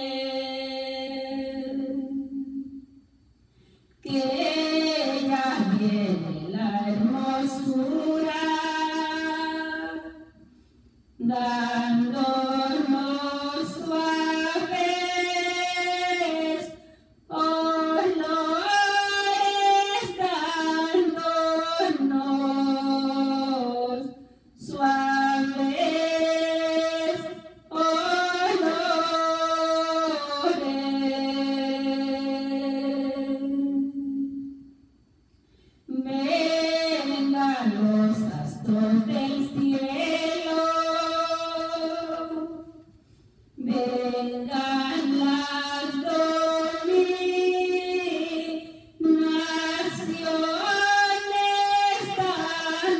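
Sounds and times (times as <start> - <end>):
woman singing a hymn unaccompanied: 0.0 - 3.0, 3.9 - 34.9, 35.8 - 52.9.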